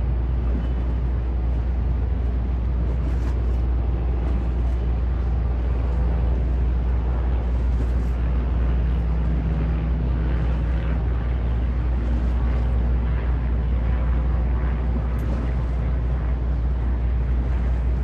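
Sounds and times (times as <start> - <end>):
ferry diesel engines droning: 0.0 - 18.0.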